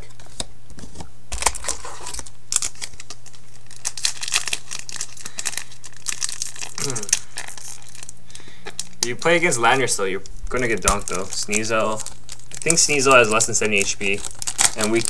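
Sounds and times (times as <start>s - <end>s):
foil wrapper crinkling and tearing: 1.3s - 15.0s.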